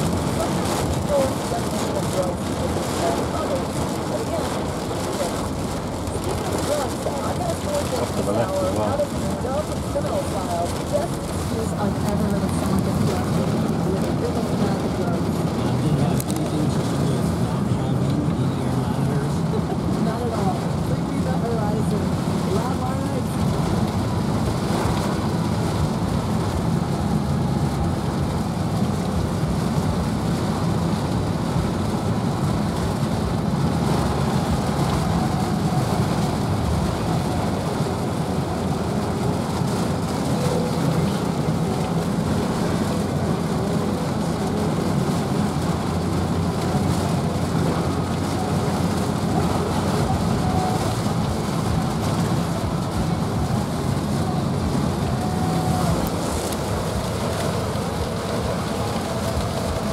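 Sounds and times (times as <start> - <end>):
rain hissing: 0.0 - 59.9
road and engine rumble: 0.0 - 59.9.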